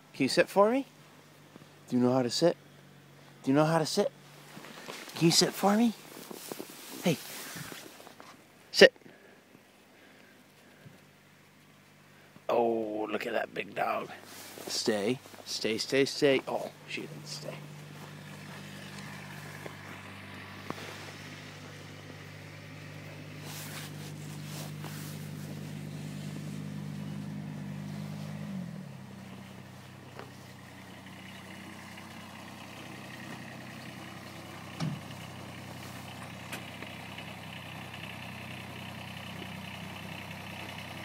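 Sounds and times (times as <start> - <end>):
vehicle engine idling: 0.0 - 8.6, 9.2 - 41.0.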